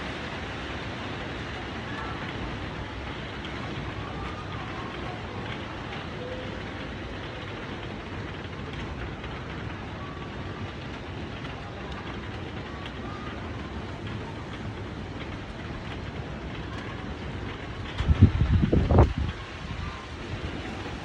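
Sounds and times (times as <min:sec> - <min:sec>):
heavy rain in strong wind: 0:00.0 - 0:21.0.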